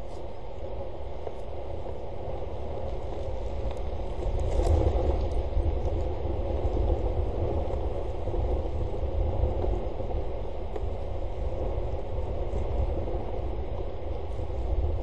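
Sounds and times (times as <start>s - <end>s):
rain and wind on microphone: 0.0s - 15.0s.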